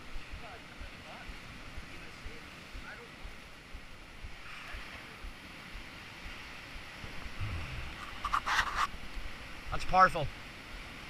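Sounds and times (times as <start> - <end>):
sea surf breaking over rocks: 0.0 - 8.3, 8.9 - 11.0.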